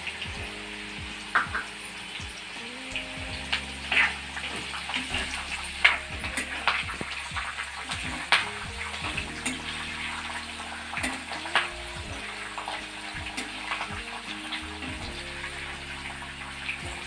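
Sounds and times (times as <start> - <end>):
oil sizzling in a pan: 0.0 - 17.0
soft background music: 0.0 - 17.0.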